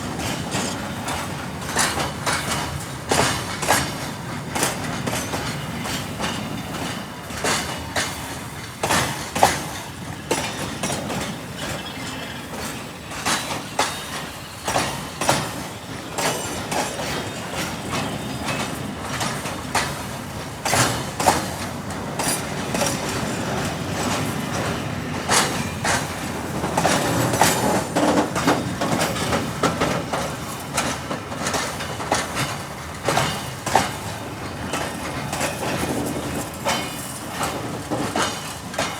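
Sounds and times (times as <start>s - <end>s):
train wheels rumbling on rails: 0.0s - 38.9s
wheels clicking over rail joints: 0.1s - 38.9s.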